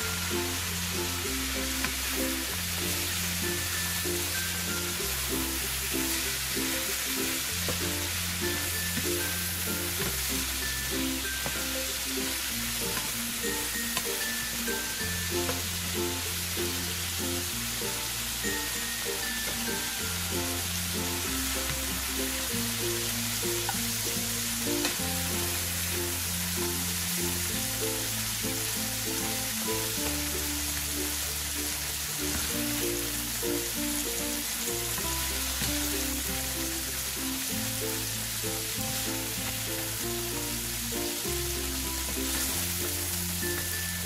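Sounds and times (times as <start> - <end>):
background music with bass line: 0.0 - 44.0
food sizzling in a frying pan: 0.0 - 44.0.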